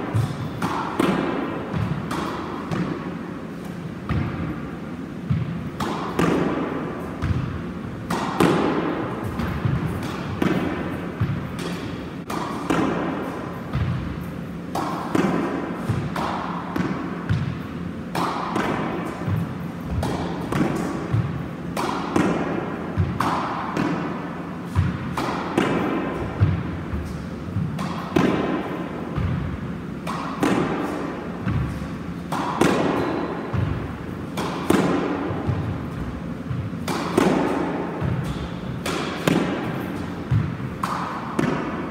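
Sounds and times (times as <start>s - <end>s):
squash ball hits echoing: 0.0s - 41.9s.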